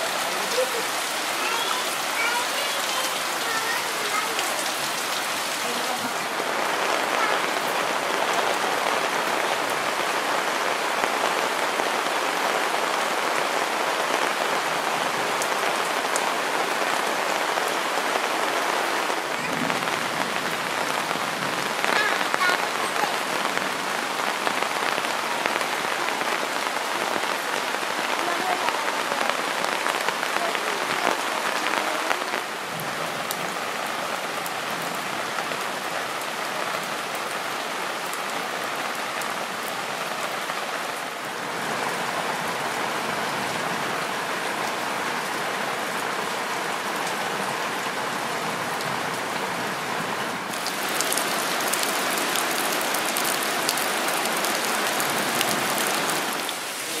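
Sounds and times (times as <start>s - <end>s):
heavy rain on leaves: 0.0s - 57.0s
rain splashing into puddle: 0.0s - 57.0s.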